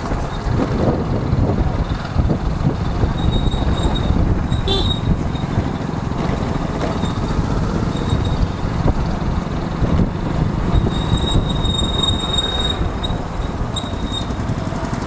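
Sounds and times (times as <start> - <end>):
fluttering wind rumble: 0.0 - 15.0
motorcycle engine: 0.0 - 15.0.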